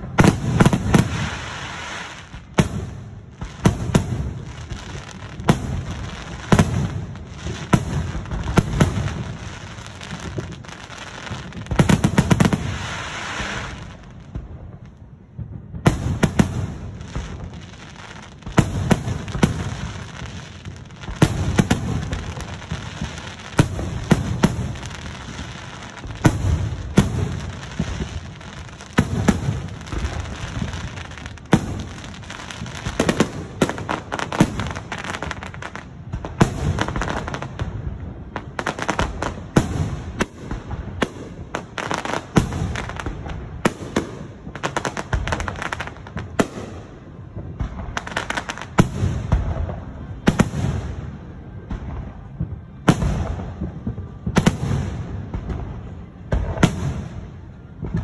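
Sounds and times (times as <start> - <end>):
fireworks bursting with sharp bangs: 0.0 - 58.0.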